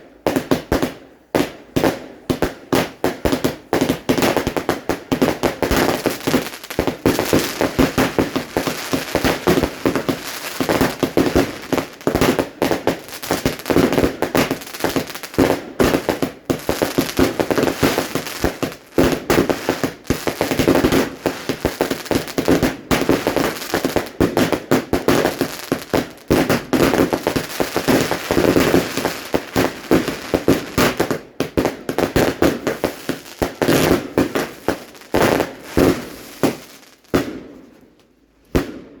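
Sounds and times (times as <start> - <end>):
fireworks cracking and popping: 0.3 - 39.0.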